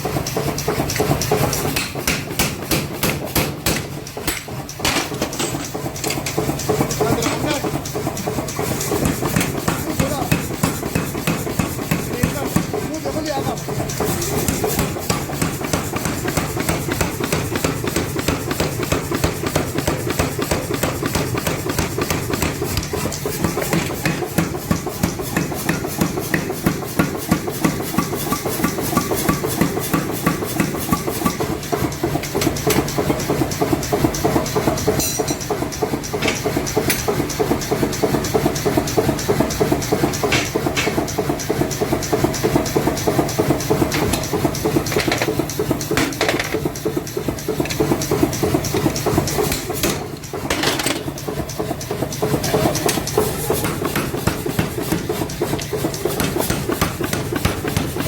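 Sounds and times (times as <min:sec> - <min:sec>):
power hammer pounding steel: 0:00.0 - 0:58.0.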